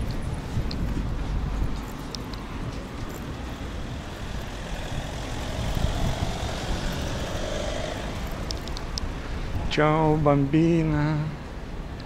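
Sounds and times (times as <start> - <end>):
vehicle passing: 0.0 - 9.7.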